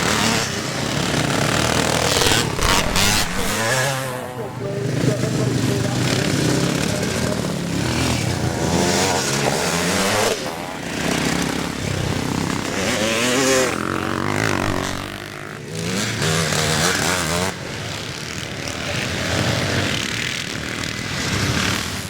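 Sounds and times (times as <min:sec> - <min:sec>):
motocross engines revving: 0:00.0 - 0:22.0.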